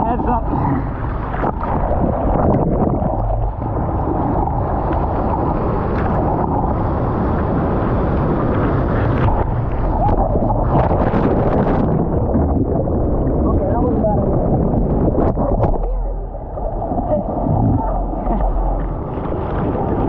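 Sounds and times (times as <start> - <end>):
wind and water rumble: 0.0 - 20.0
water splashing against surfboard: 0.4 - 20.0.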